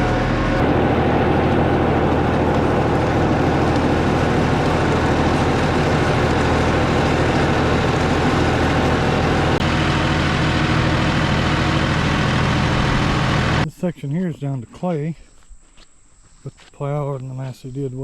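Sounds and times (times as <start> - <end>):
tractor diesel engine running: 0.0 - 14.7.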